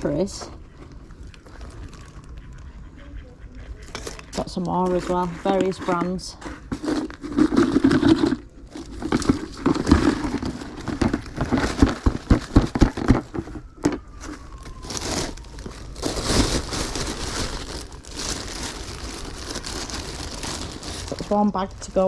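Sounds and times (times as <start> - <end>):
plastic bag rustling: 0.0 - 2.6, 4.0 - 22.0.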